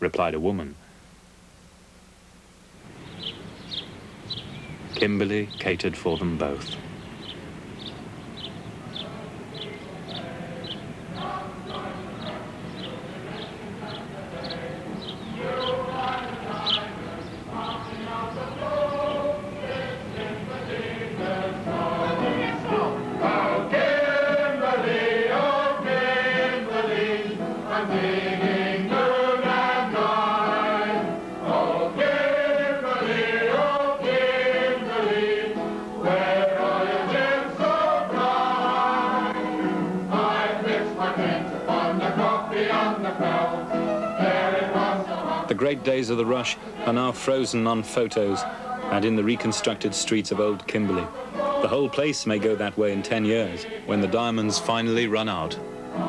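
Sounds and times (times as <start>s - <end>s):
choir singing slow melody: 7.8s - 56.0s.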